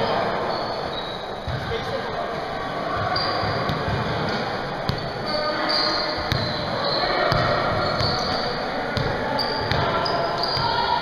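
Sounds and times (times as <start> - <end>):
sneakers squeaking on court: 0.0 - 2.1, 2.9 - 11.0
indistinct echoing voices: 0.0 - 11.0.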